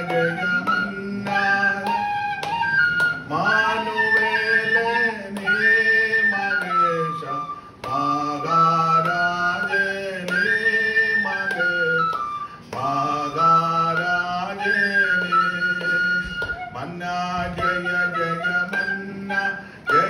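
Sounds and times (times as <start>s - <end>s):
flute melody: 0.0s - 20.0s.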